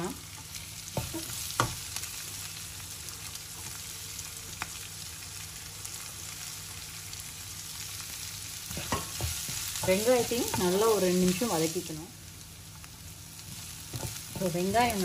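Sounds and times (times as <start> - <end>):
onions sizzling in a frying pan: 0.0 - 15.0.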